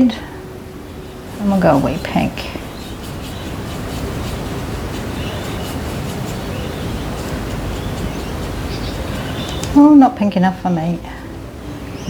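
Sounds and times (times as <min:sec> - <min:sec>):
room background rushing noise: 0:00.0 - 0:12.0.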